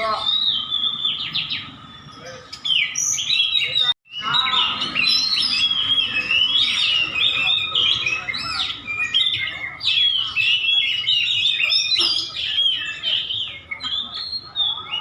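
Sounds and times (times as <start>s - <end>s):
bird singing chirps and whistles: 0.0s - 15.0s.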